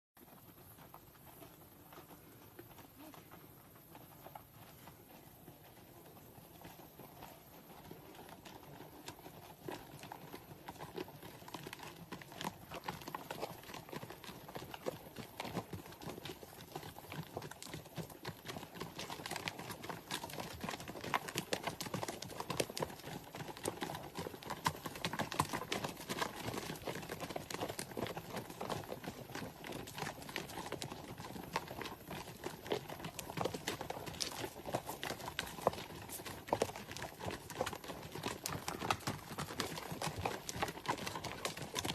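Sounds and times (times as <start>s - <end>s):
horse hooves clip-clopping: 0.2s - 41.9s.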